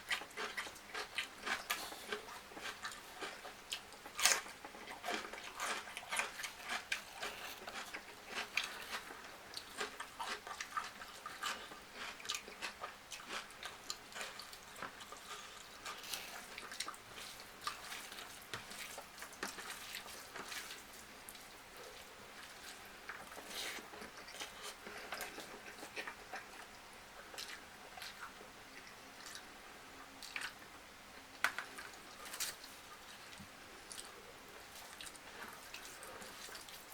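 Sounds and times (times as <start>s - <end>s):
chewing and biting: 0.0s - 29.5s, 31.4s - 36.9s.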